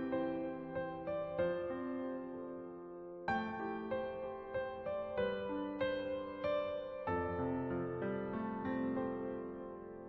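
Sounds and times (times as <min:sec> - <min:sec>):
keyboard notes over held chords: 0:00.0 - 0:10.0.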